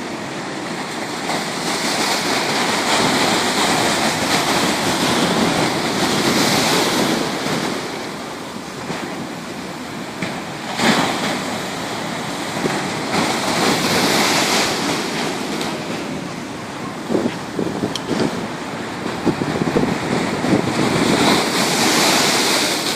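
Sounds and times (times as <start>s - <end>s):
sea waves breaking: 0.0s - 22.9s
wind buffeting microphone: 1.6s - 22.9s.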